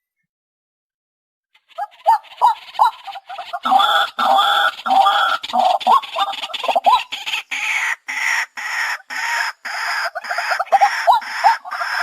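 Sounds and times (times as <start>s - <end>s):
waterhen calling: 1.6s - 12.0s.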